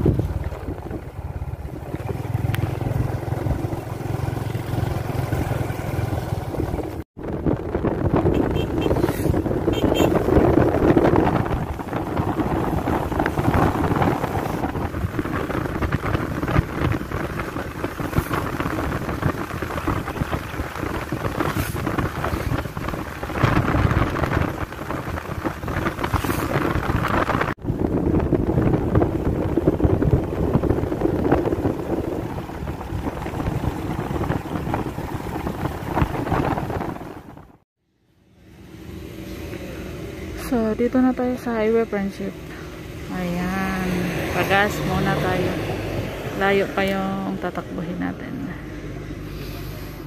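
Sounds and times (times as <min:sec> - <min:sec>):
wind rushing over microphone: 0:00.0 - 0:37.6, 0:39.0 - 0:50.0
motorcycle engine and road noise: 0:00.0 - 0:50.0.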